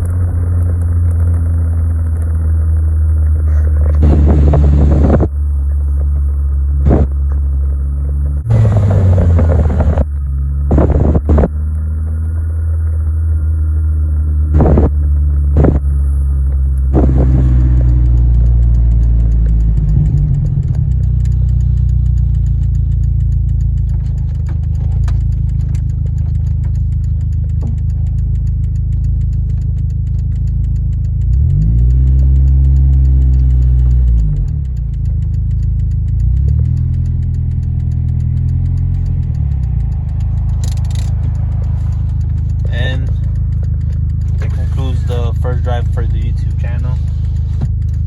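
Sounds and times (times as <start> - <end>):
sharp engine knocks: 0.0 - 13.5, 14.2 - 48.0
car engine running: 0.0 - 48.0.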